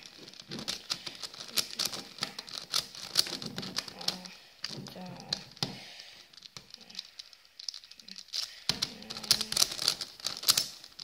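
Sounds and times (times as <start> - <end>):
plastic puzzle clicking: 0.0 - 11.0.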